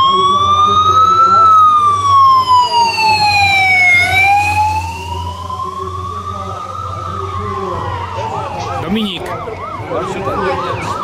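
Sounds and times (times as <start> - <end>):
motorcycle siren wailing: 0.0 - 11.0.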